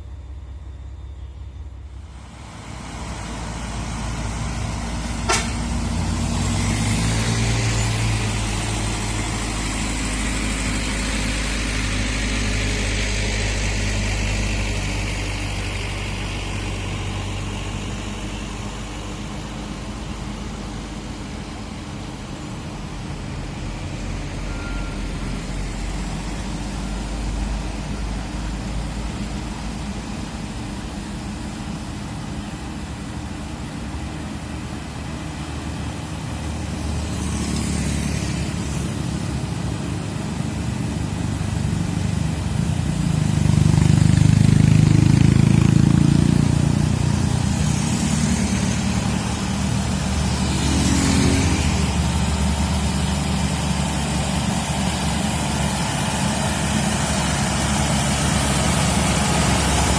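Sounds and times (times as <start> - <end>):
diesel truck engine under load: 0.0 - 59.9.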